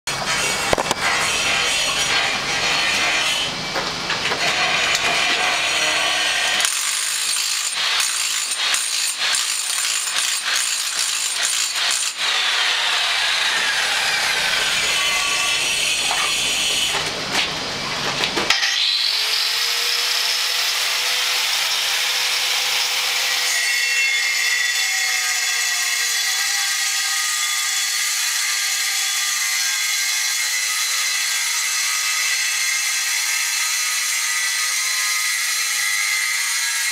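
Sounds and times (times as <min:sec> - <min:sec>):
power tool cutting concrete: 0:00.1 - 0:03.5, 0:04.4 - 0:17.0, 0:18.5 - 0:36.9.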